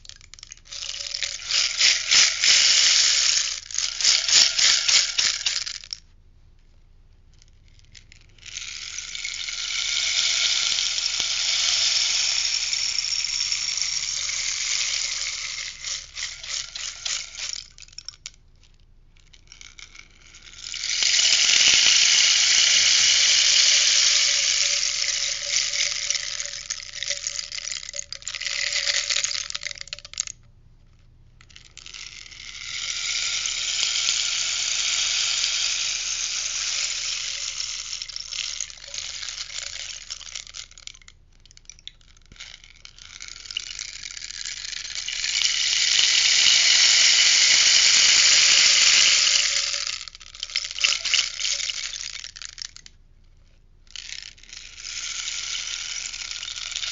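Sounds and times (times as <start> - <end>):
rainstick pebbles rushing patter: 0.0 - 6.0, 7.8 - 18.4, 19.3 - 30.3, 31.6 - 52.9, 54.0 - 56.9.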